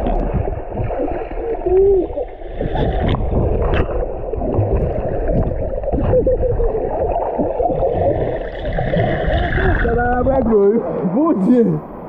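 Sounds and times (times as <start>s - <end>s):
underwater churning and bubbling: 0.0s - 12.0s.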